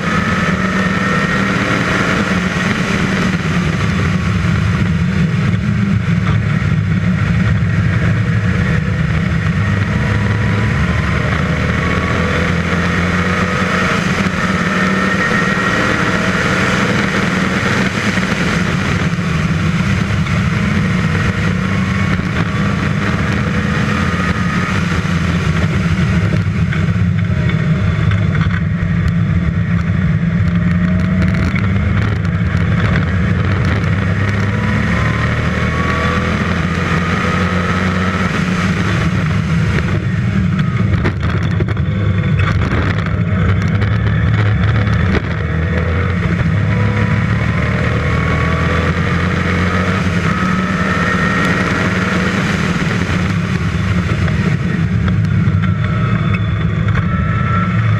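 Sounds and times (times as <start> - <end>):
car engine under load: 0.0 - 57.9.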